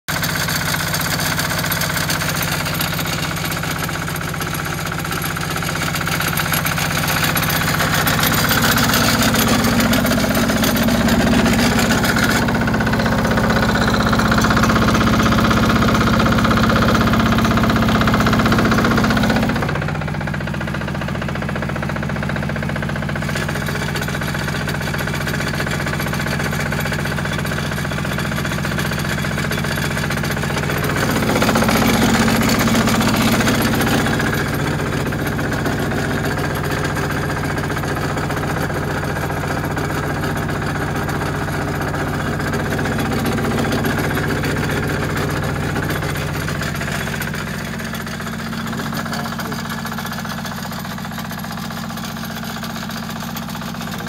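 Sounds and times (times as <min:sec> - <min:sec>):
garden tractor engine running: 0:00.1 - 0:54.0.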